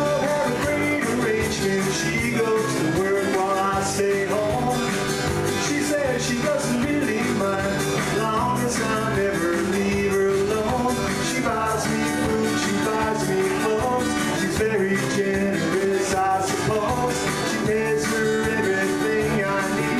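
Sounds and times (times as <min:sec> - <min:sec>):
acoustic guitar strumming: 0:00.0 - 0:19.9
held melody line: 0:00.0 - 0:19.9.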